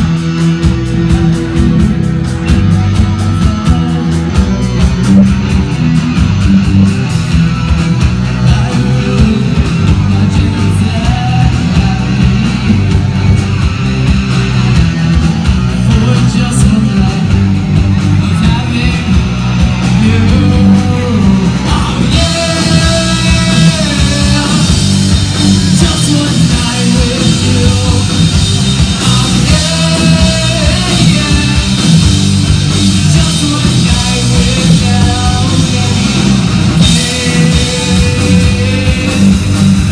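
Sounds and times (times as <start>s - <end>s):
bass guitar: 0.0s - 39.9s
drum kit: 0.0s - 39.9s
electric guitars: 0.0s - 39.9s
person singing lead vocal: 0.1s - 5.0s, 8.3s - 13.1s, 15.7s - 32.1s, 32.8s - 39.9s.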